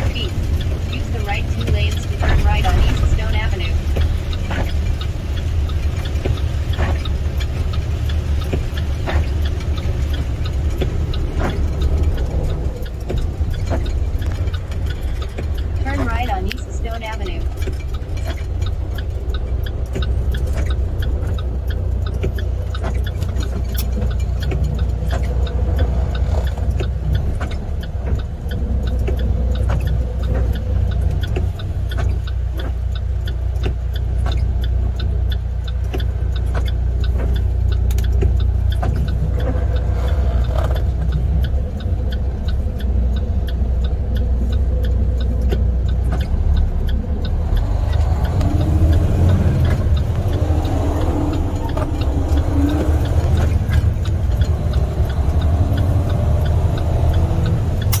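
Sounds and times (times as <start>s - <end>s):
diesel truck engine rumbling: 0.0s - 58.0s
faint ticks: 0.0s - 58.0s.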